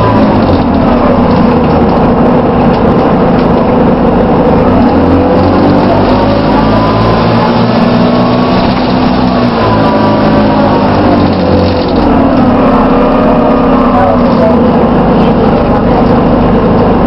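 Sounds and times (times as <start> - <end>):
bus engine drone: 0.0 - 17.0
whirring whine: 0.0 - 17.0.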